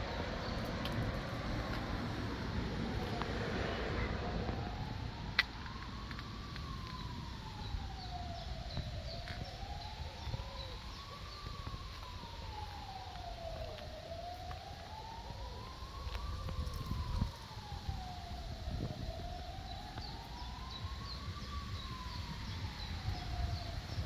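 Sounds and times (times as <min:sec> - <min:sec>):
siren wailing: 0:00.0 - 0:24.0.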